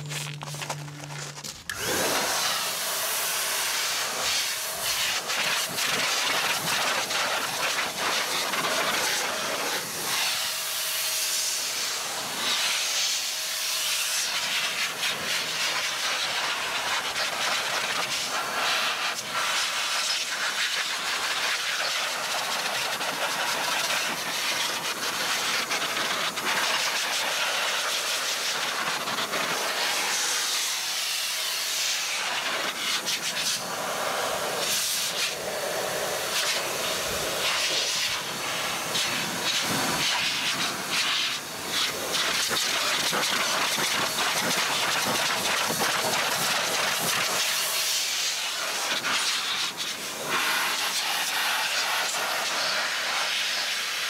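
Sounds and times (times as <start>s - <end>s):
air spray gun hissing: 1.7s - 54.0s.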